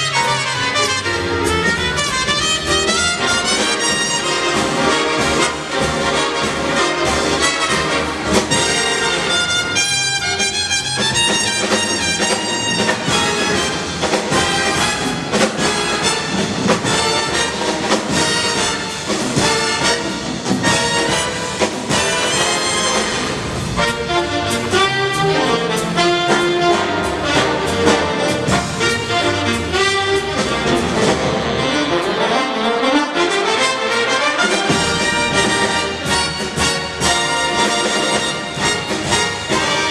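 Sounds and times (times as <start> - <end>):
driving drum kit: 0.0 - 32.1, 34.3 - 39.9
big band horns playing: 0.0 - 39.9.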